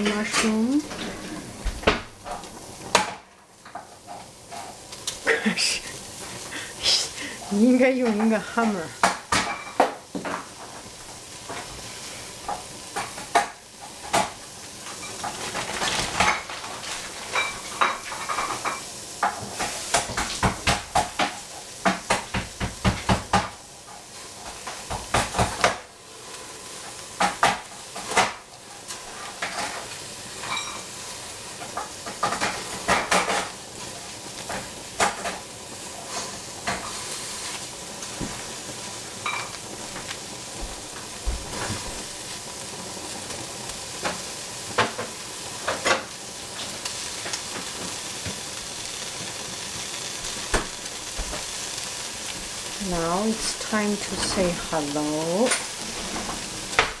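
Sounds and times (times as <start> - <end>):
mushrooms sizzling: 0.0 - 57.0.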